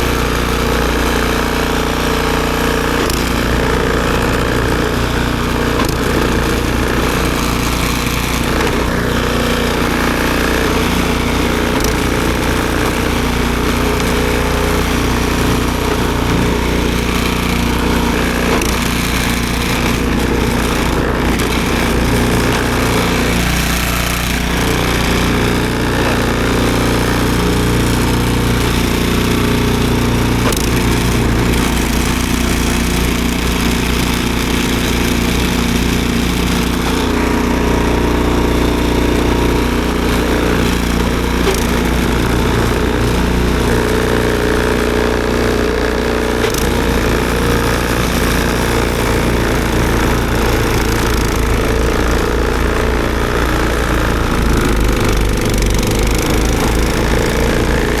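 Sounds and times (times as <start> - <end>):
snowblower engine running: 0.0 - 58.0.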